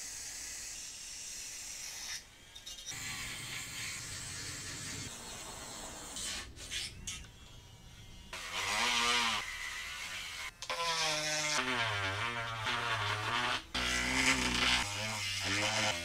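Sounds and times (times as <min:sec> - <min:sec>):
rotary tool buzzing: 0:00.0 - 0:05.1, 0:06.2 - 0:16.0.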